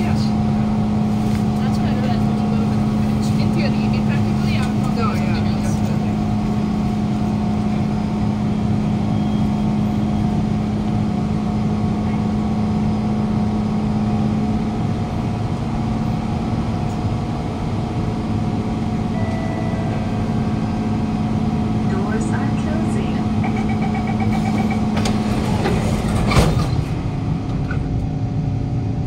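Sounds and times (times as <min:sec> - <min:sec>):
station background noise: 0:00.0 - 0:29.0
train equipment hum: 0:00.0 - 0:29.0.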